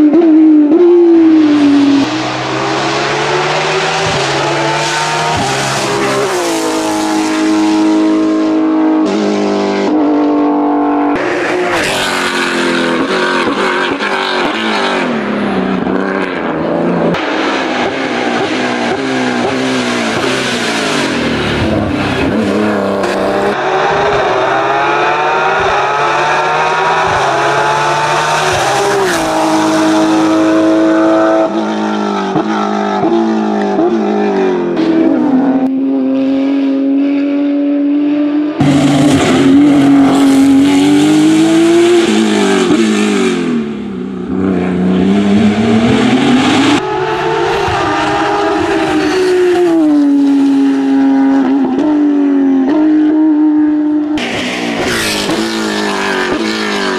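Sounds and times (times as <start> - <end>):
race car engine at high revs: 0.0 - 56.9.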